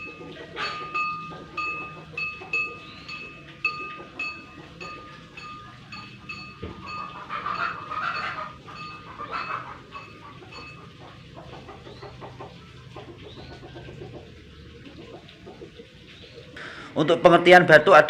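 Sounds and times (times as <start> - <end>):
animal calls: 0.0 - 17.0.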